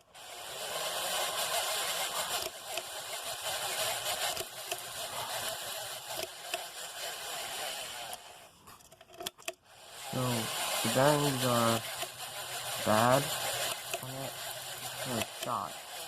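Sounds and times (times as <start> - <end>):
ceiling fan motor whirring: 0.0 - 16.0.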